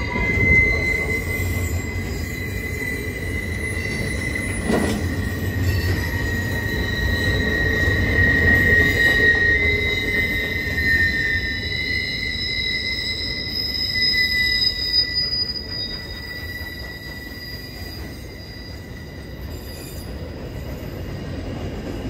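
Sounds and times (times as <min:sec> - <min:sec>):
rumble of wheels on rail: 0:00.0 - 0:22.0
train wheels squealing: 0:00.0 - 0:22.0.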